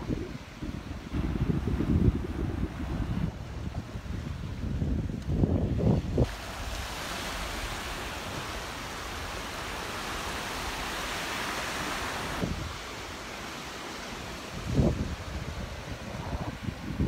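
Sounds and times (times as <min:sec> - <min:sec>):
waves breaking on beach: 0:00.0 - 0:17.0
wind rumble on microphone: 0:00.0 - 0:17.0.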